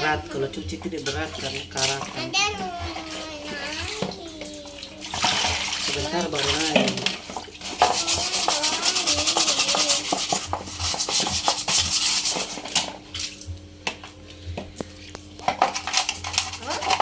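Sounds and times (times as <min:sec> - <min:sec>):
brush scrubbing inside washing machine: 0:00.0 - 0:13.5, 0:14.4 - 0:17.0.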